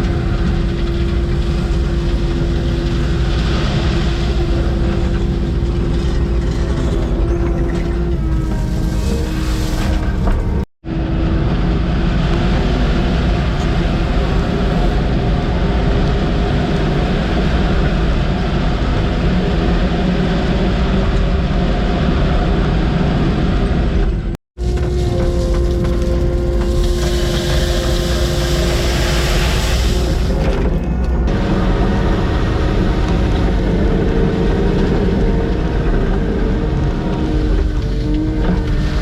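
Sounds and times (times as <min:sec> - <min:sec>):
diesel earthmover engine under load: 0:00.0 - 0:39.0.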